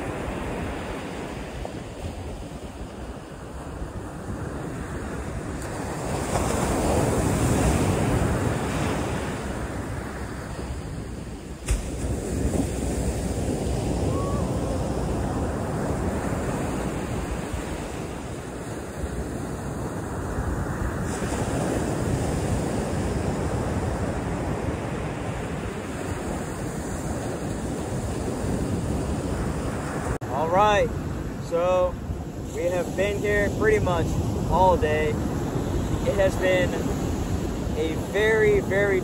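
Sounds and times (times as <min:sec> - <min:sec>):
ocean surf breaking: 0:00.0 - 0:39.0
wind rumbling on microphone: 0:00.0 - 0:39.0.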